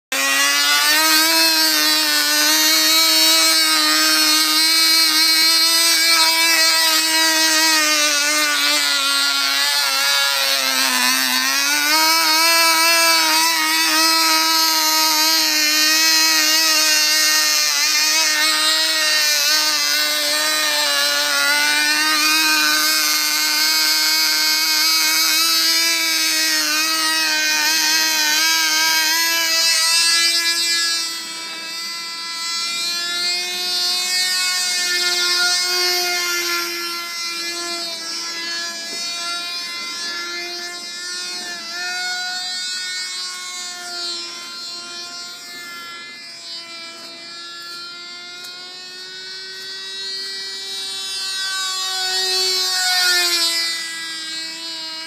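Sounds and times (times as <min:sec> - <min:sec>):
model airplane engine whine: 0:00.0 - 0:55.0.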